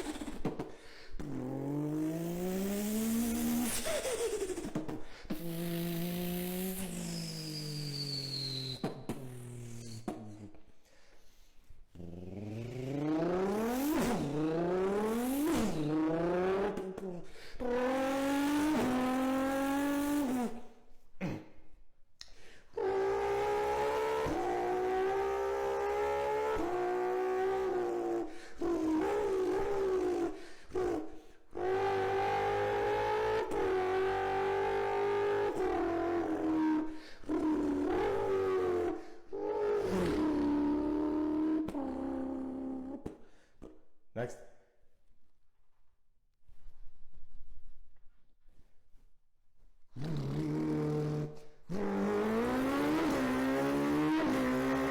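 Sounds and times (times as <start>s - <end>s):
beatboxer imitating car engines: 0.0s - 10.7s, 11.9s - 21.6s, 22.2s - 44.5s, 49.9s - 54.9s.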